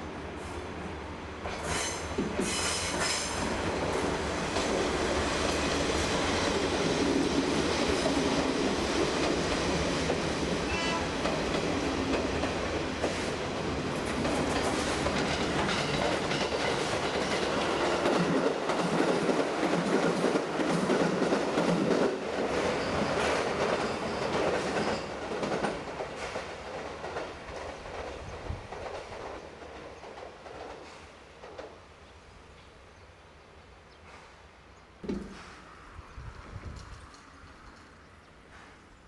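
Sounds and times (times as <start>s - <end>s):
train wheels on rail: 0.1s - 32.6s, 33.9s - 39.0s.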